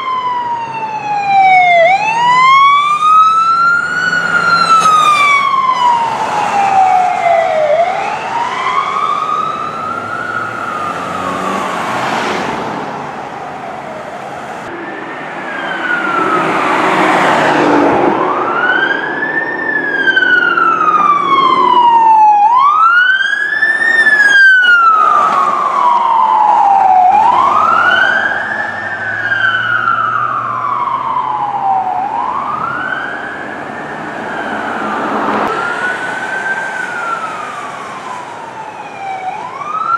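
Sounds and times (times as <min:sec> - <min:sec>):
emergency sirens wailing: 0:00.0 - 0:39.9
vehicle and road noise: 0:00.0 - 0:39.9.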